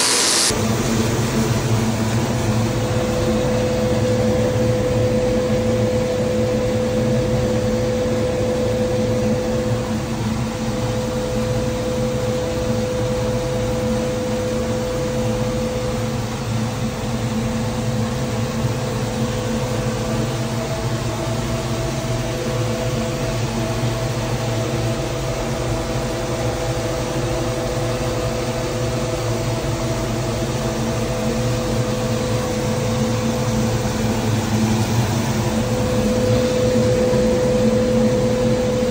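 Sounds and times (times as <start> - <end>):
turbine whine: 0.0 - 38.9
turboprop engine droning: 0.0 - 38.9.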